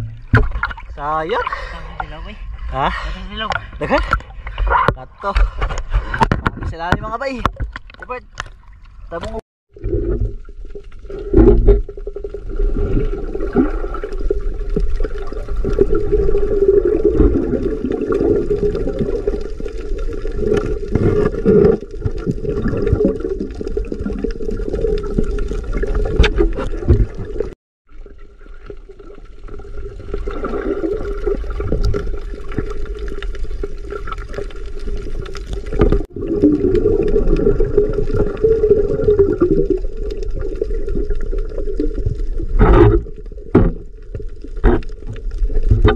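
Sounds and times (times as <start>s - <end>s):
crackles and clicks: 0.0s - 45.9s
muffled underwater water rush: 0.0s - 45.9s.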